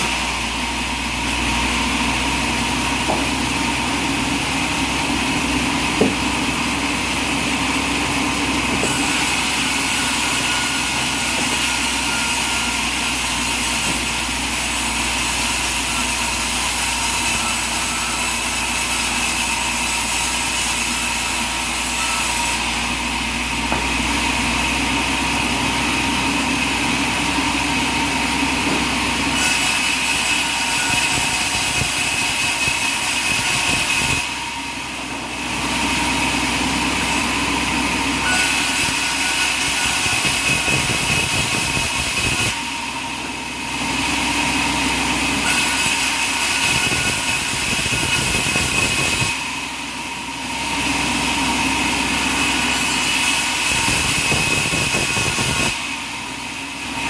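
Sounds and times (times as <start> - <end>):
sawmill machine drone: 0.0 - 57.0.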